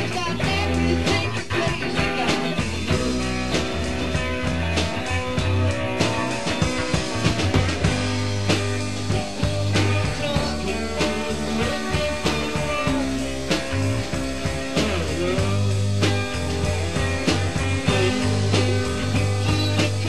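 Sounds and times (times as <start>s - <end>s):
low held bass notes: 0.0s - 20.0s
regular drum beat: 0.0s - 20.0s
rock song: 0.0s - 20.0s.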